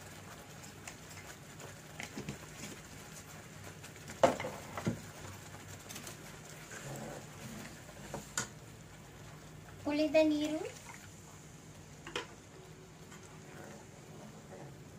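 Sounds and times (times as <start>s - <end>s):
paste frying and spluttering: 0.0s - 14.9s.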